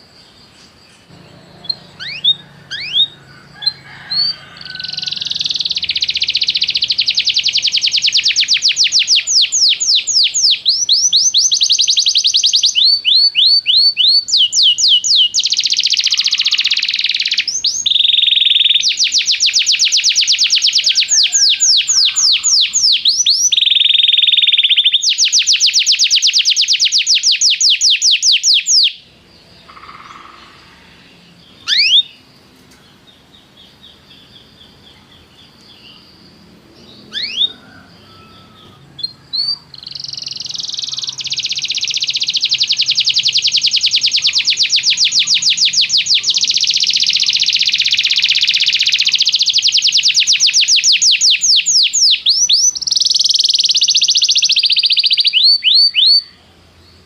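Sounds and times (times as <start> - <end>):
short rising bird chirp: 0.0 - 29.0, 29.6 - 32.2, 35.6 - 56.2
canary singing trills: 0.0 - 57.0.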